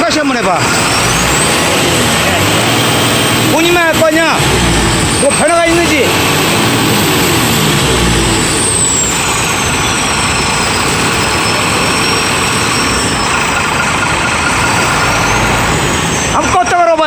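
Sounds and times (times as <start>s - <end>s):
diesel truck engine rumbling: 0.0s - 17.0s
high whine: 0.0s - 17.0s.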